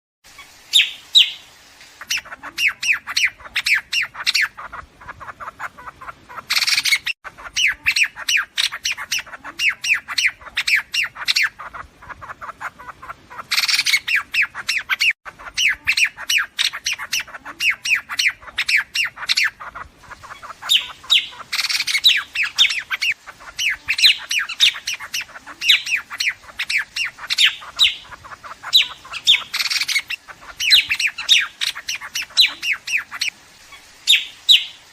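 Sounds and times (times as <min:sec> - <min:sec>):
birds harsh chattering calls: 0:00.3 - 0:34.9.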